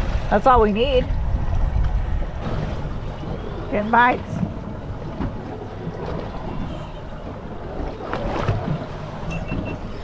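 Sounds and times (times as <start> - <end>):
sea sloshing against boat hull: 0.0 - 10.0
wind buffeting microphone: 0.0 - 10.0.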